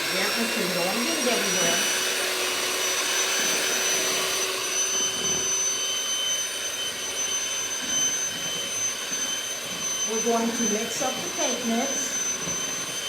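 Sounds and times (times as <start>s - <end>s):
electric kitchen mixer running: 0.0s - 13.0s.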